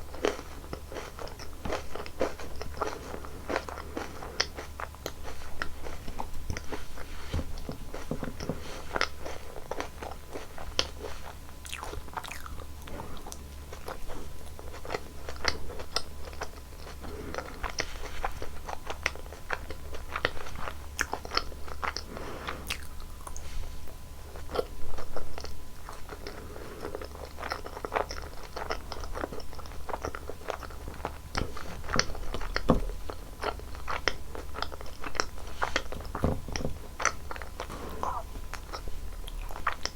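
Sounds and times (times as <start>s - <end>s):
person chewing ice cream: 0.0s - 39.9s
steady low hum: 0.0s - 39.9s.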